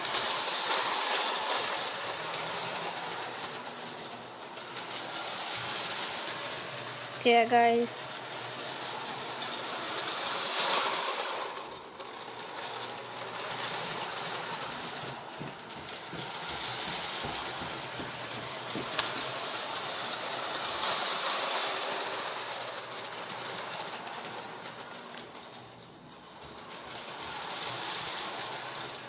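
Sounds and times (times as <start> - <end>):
toy train whirring and rattling: 0.0 - 29.0.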